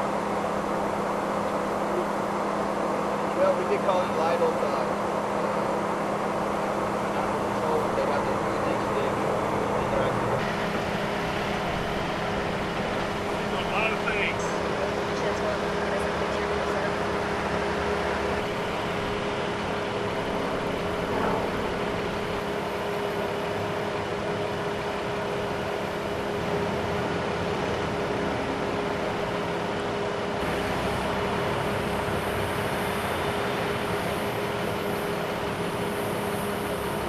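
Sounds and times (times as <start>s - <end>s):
constant hum: 0.0s - 37.0s
idling vehicles: 0.0s - 37.0s
road traffic: 0.0s - 37.0s.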